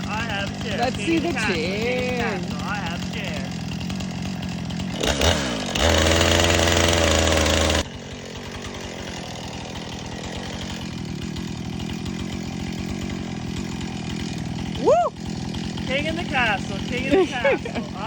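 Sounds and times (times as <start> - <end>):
chainsaw revving and idling: 0.0 - 18.0.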